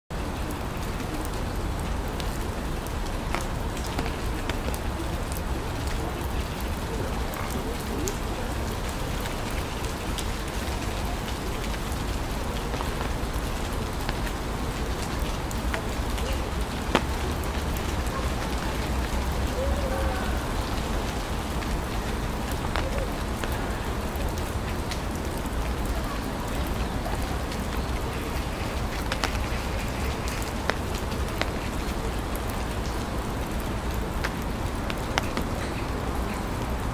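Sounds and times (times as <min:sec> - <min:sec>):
rain falling on leaves: 0:00.1 - 0:36.9
raindrops ticking: 0:00.1 - 0:36.9.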